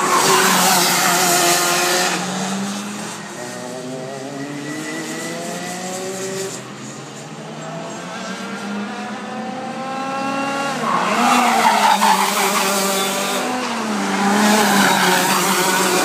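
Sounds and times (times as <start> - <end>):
kart engine revving: 0.0 - 7.1, 7.7 - 16.0.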